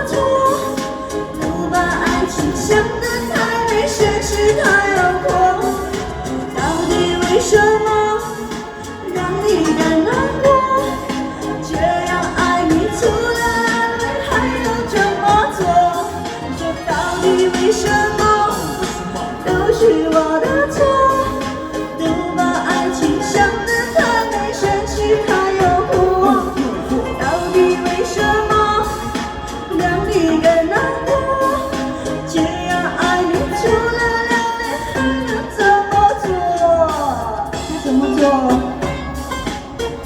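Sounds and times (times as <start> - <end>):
backing track: 0.0 - 40.0
person singing pop song: 0.0 - 40.0.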